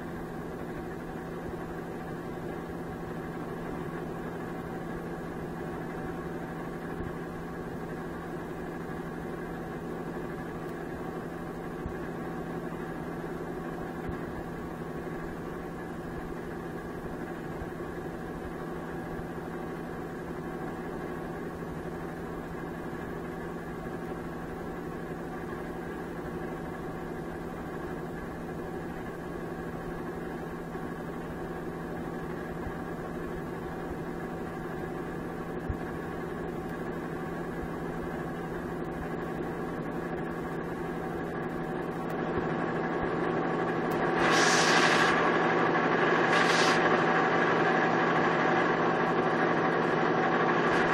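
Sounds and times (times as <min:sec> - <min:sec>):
steady machine hum: 0:00.0 - 0:50.9.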